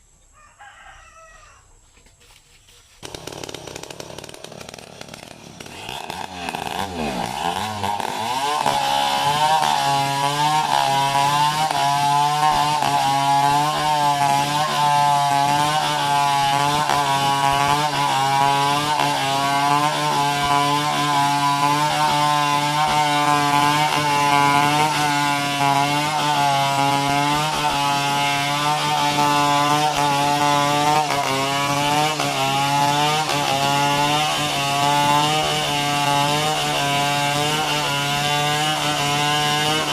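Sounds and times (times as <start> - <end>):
chainsaw cutting wood: 2.9 - 39.9.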